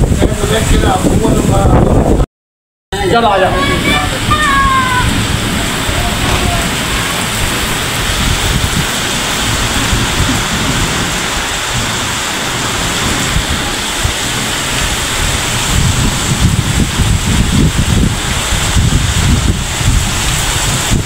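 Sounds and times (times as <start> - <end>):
heavy rain pouring: 0.0 - 2.3, 3.0 - 21.0.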